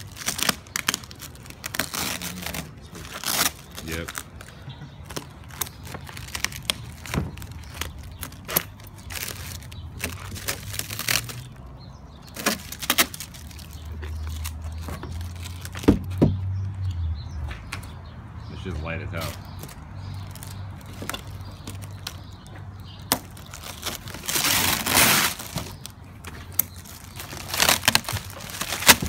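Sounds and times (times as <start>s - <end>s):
plastic wrap tearing and crinkling: 0.0s - 11.6s, 12.2s - 16.1s, 19.6s - 22.3s, 23.0s - 29.0s.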